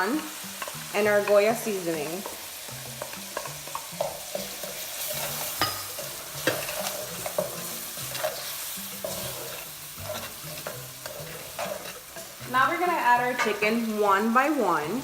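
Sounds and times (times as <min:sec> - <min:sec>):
vegetables sizzling in oil: 0:00.0 - 0:15.0
utensil scraping and tapping pan: 0:00.5 - 0:13.8.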